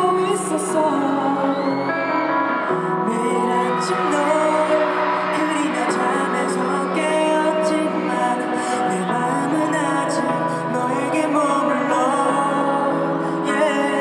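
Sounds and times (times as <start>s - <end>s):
men singing: 0.0s - 2.0s, 2.9s - 14.0s
pop ballad over loudspeakers: 0.0s - 14.0s.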